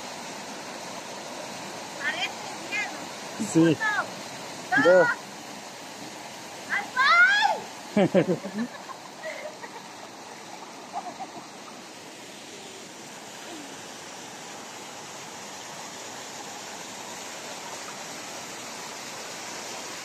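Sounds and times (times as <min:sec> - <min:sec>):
waterfall pouring into pool: 0:00.0 - 0:20.0.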